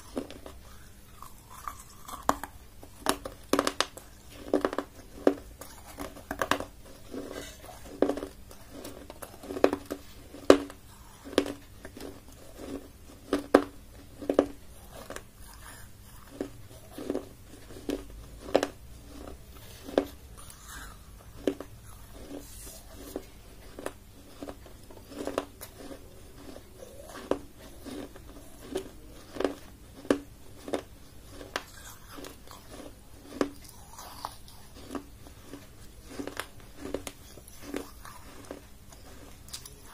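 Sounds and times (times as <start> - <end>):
teeth crunching baked clay: 0.0 - 39.9.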